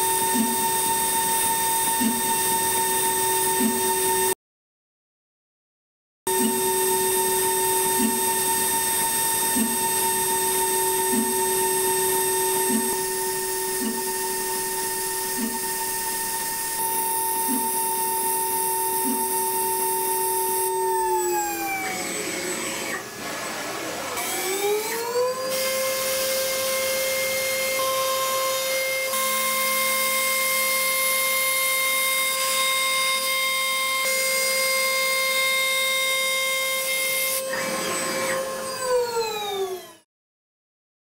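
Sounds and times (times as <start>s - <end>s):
mill spindle whining: 6.3s - 39.9s.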